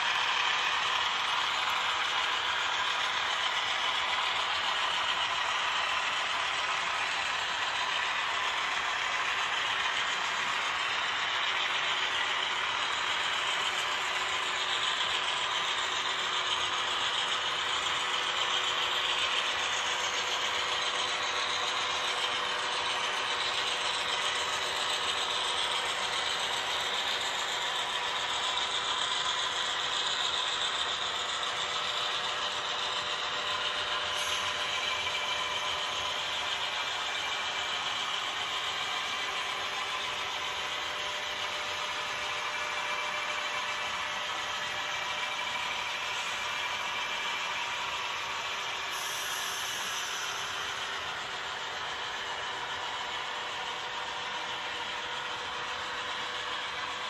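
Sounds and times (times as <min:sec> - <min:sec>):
model train wheels clattering: 0:00.0 - 0:57.0.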